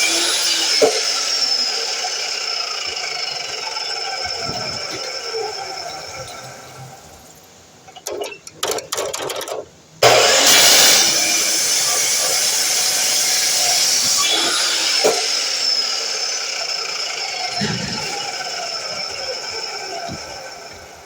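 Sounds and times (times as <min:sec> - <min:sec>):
miter saw motor running: 0:00.0 - 0:07.2, 0:10.0 - 0:21.0.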